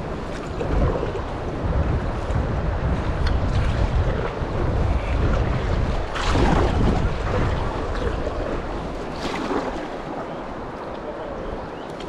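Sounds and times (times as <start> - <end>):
river water rushing: 0.0 - 11.9
wind buffeting microphone: 0.0 - 12.0.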